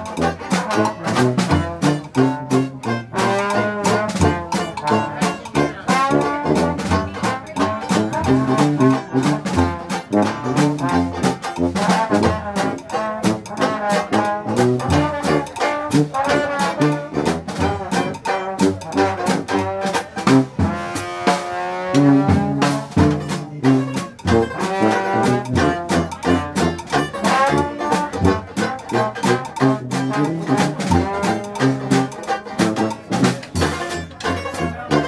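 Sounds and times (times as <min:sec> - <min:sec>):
brass lines: 0:00.0 - 0:35.0
drums: 0:00.0 - 0:35.0
strummed banjo: 0:00.0 - 0:35.0
tuba bass line: 0:00.0 - 0:35.0.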